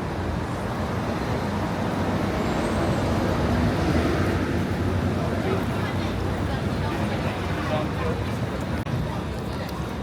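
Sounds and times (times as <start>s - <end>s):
street noise: 0.0s - 10.0s
traffic rumble: 0.0s - 10.0s.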